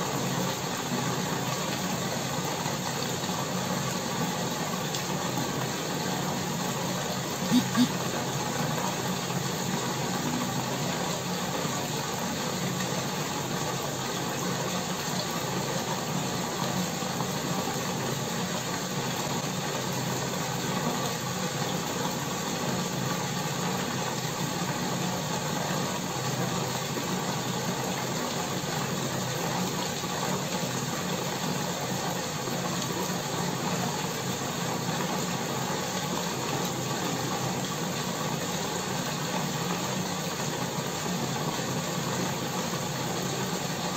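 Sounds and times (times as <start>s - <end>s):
aquarium air pump humming: 0.0s - 43.9s.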